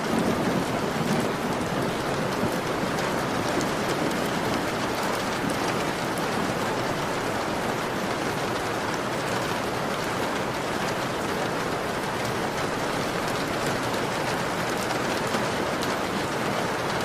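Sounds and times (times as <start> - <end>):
heavy rain on a window: 0.0 - 17.0
raindrop ticks: 0.1 - 17.0.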